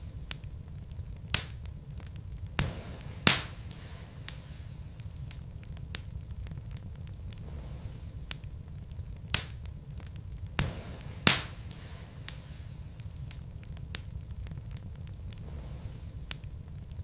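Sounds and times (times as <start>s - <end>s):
fire crackling: 0.0s - 17.0s
low rumble of fire: 0.0s - 17.0s
sharp pops from burning logs: 0.0s - 17.0s.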